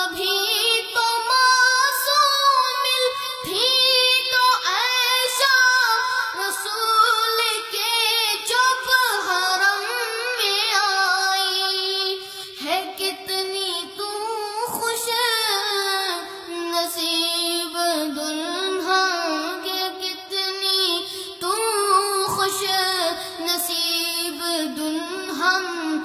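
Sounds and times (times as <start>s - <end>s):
boy singing devotional song: 0.0s - 26.0s.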